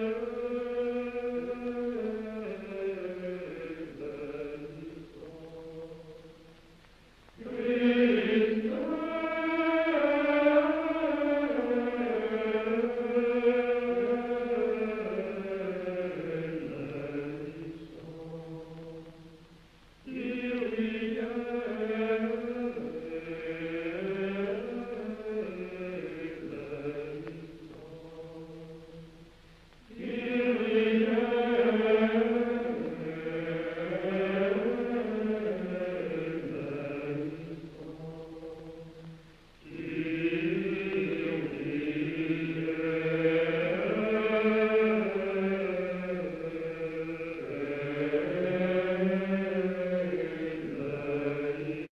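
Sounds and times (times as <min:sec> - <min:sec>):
slow sung vocal chant: 0:00.0 - 0:51.9.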